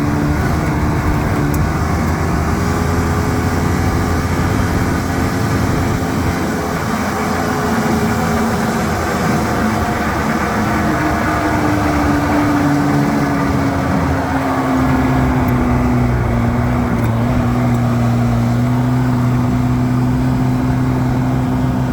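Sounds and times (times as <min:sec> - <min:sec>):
engine running with low hum: 0:00.0 - 0:21.9.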